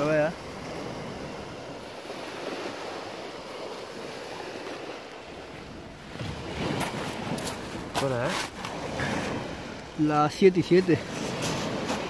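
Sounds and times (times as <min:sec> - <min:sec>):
sea surf on pebbles: 0:00.0 - 0:12.0.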